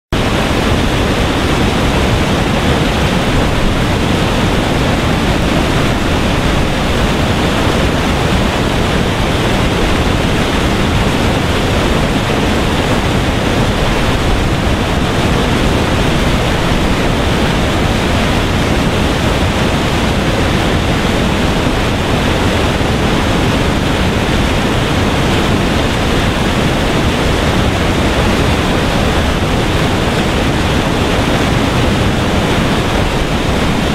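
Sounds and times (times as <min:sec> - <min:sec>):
water rushing over weir: 0:00.1 - 0:33.9.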